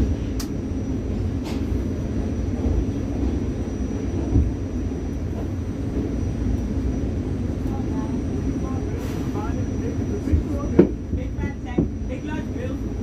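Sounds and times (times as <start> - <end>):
subway car running on track: 0.0 - 13.0.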